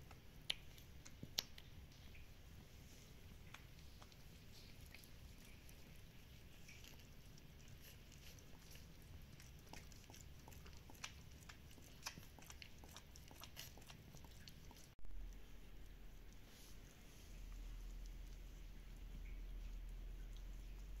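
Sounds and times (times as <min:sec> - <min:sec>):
dog licking puppies: 0:00.0 - 0:21.0.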